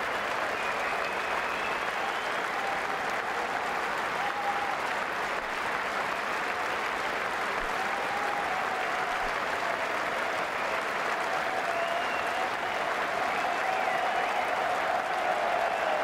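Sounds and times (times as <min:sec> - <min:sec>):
stadium crowd applauding: 0:00.0 - 0:16.0.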